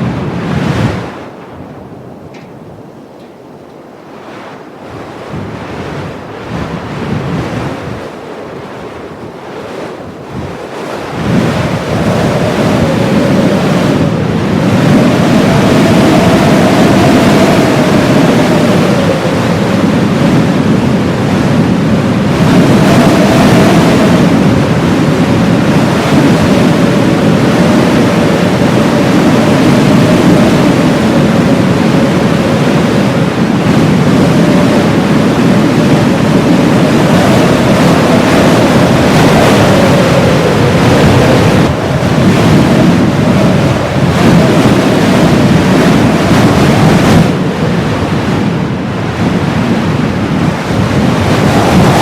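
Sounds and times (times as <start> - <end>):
heavy blizzard wind: 0.0 - 52.0.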